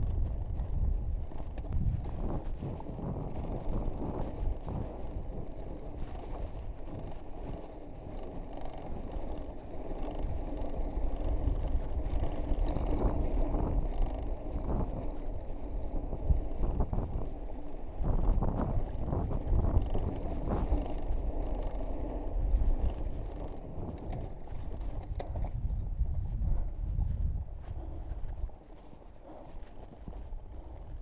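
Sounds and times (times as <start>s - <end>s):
bike tyres rolling over rock: 0.0s - 31.0s
wind buffeting the microphone: 0.0s - 31.0s.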